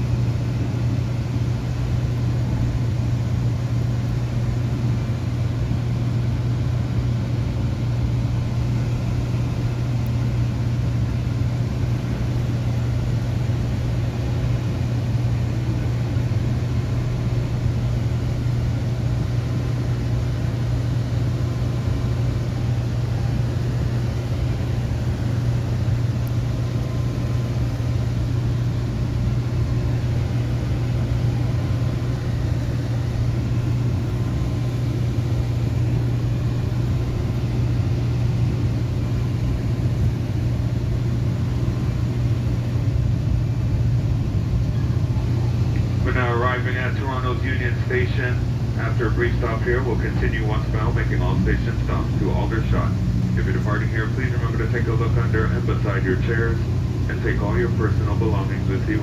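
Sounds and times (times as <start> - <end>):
train coach hum and rumble: 0.0 - 59.0.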